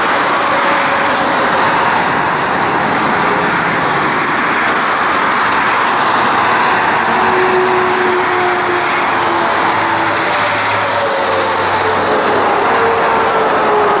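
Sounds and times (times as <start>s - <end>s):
train wagons rolling past: 0.0s - 14.0s.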